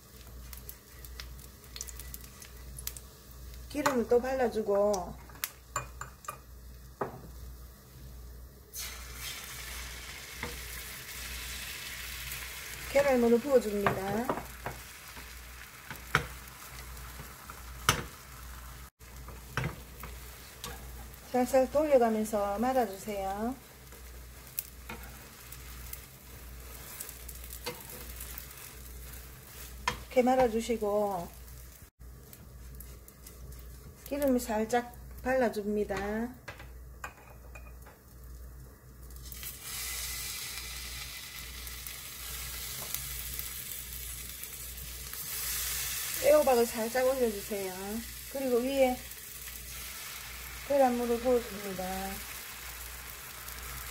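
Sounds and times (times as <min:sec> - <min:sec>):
egg sizzling in a pan: 0:00.0 - 0:36.1, 0:37.0 - 0:53.9.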